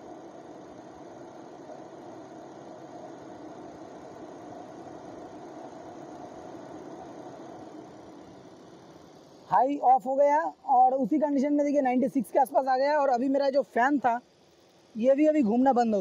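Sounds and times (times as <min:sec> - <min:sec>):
radiator cooling fan humming: 0:00.0 - 0:16.0.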